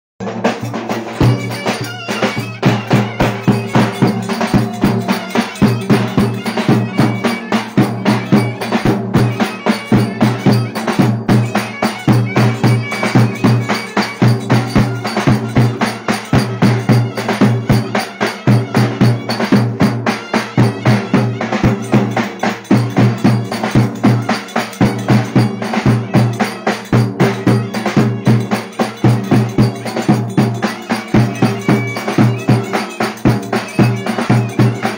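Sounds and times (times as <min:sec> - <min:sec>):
fast drumbeat: 0:00.2 - 0:34.9.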